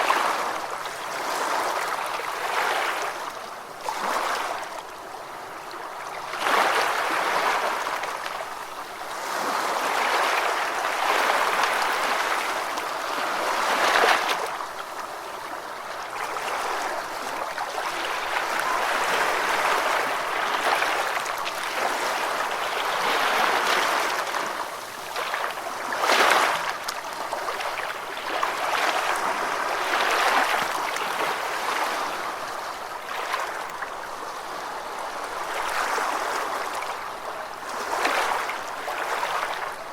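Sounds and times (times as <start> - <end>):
ocean waves washing on beach: 0.0 - 39.9
waves breaking: 0.0 - 39.9.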